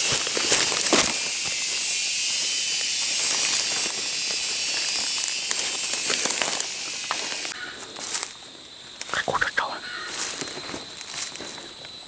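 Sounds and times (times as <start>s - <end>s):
insects buzzing drone: 0.0s - 12.0s.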